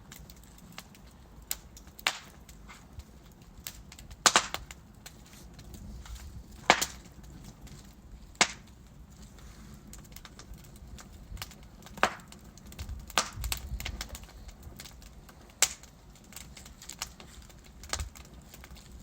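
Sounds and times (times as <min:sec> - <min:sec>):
logs crackling in fireplace: 0:00.0 - 0:19.0
low fire rumble: 0:00.0 - 0:19.0
sharp fire pops: 0:00.0 - 0:19.0.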